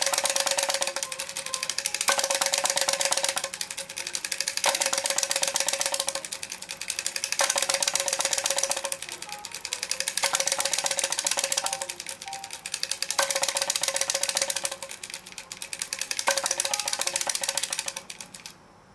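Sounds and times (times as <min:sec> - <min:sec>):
toy drumsticks tapping tin drum: 0:00.0 - 0:18.6
wind-up mechanism whirring: 0:00.0 - 0:18.6.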